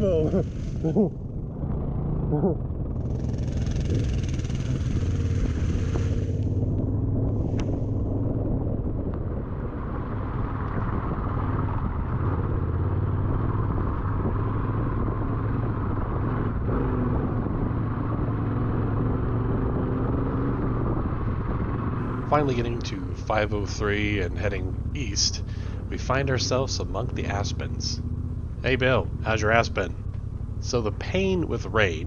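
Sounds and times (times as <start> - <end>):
motorcycle engine running: 0.0 - 32.0
wind and tyre noise: 0.0 - 32.0.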